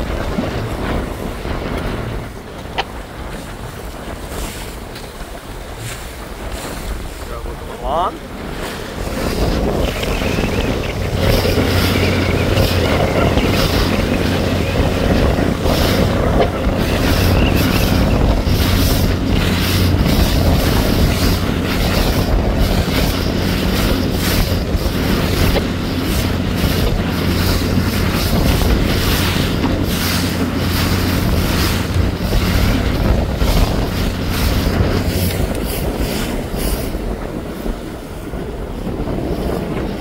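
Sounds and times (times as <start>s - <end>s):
steady low drone: 0.0s - 39.9s
wind buffeting microphone: 0.0s - 40.0s.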